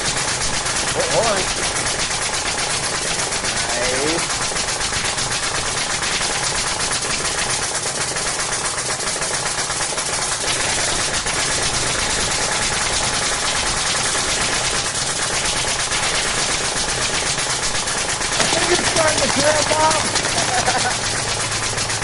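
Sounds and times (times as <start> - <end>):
machine rattling rapidly: 0.0 - 22.0.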